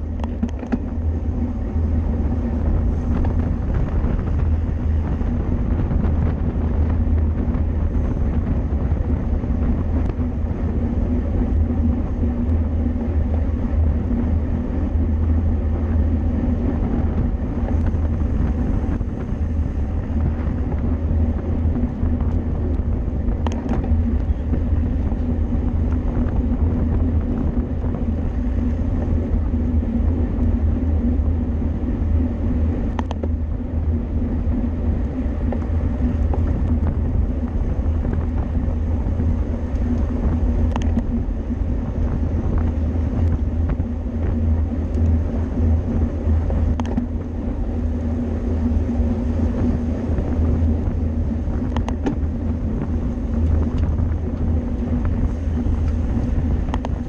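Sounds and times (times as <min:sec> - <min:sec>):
wind and bicycle road rumble: 0:00.0 - 0:57.0.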